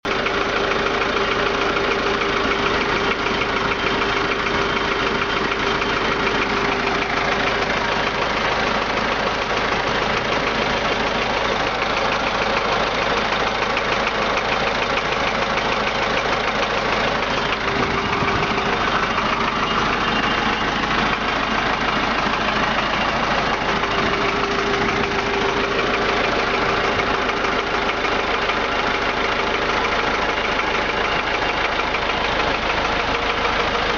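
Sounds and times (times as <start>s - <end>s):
diesel engine idling: 0.0s - 33.9s
engine knock: 0.0s - 33.9s.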